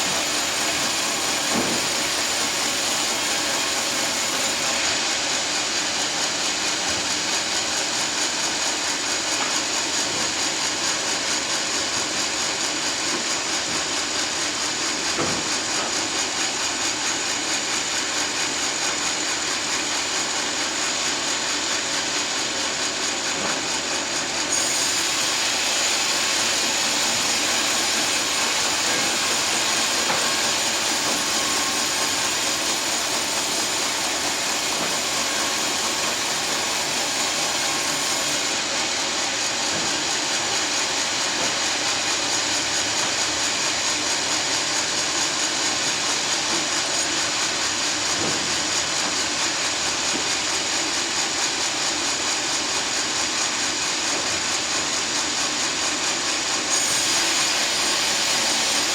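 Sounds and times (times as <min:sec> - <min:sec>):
sawmill saw cutting log: 0:00.0 - 0:58.9.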